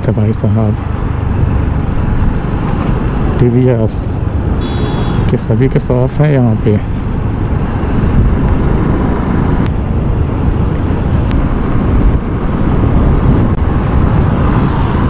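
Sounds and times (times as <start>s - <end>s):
motorcycle riding: 0.0s - 15.0s.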